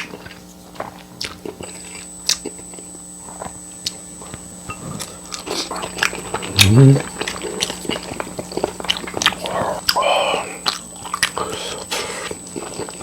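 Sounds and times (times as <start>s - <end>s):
faint steady hum: 0.0s - 13.0s
person chewing: 0.0s - 13.0s.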